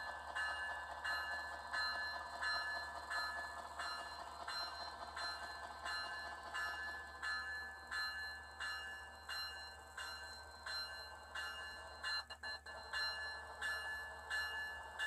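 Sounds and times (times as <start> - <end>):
model railroad bell ringing: 0.0 - 15.0.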